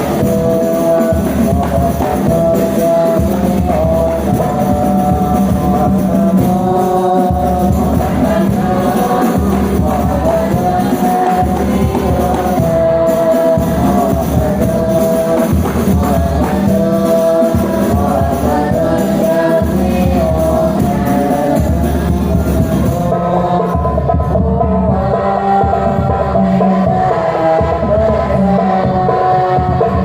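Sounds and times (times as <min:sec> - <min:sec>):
child singing: 0:00.0 - 0:30.0
frame drum percussion: 0:00.0 - 0:30.0.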